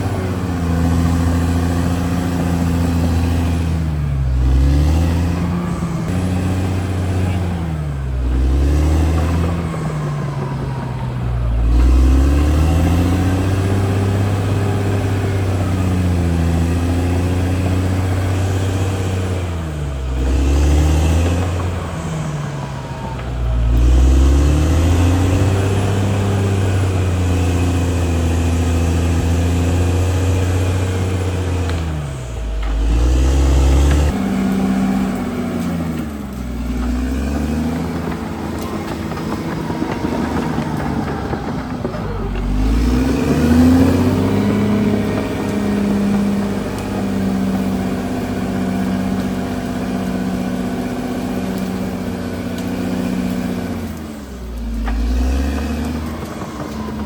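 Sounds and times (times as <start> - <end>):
bulldozer diesel engine working: 0.0 - 57.0.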